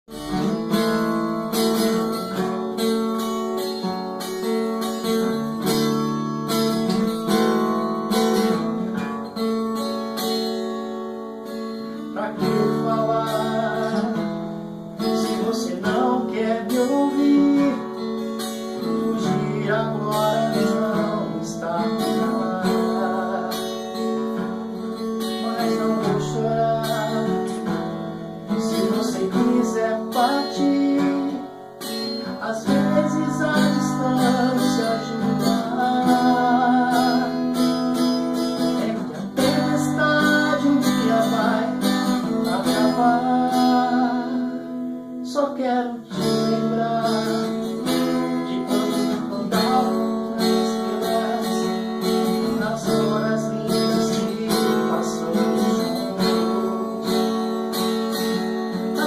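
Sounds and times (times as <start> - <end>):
acoustic guitar strumming: 0.1 - 59.0.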